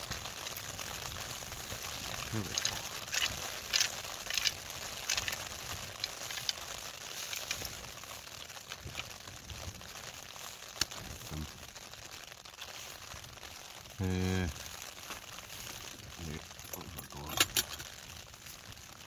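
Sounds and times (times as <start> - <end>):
pot cosy rustling: 0.0 - 11.5, 12.6 - 18.6
steady hiss: 0.0 - 19.0.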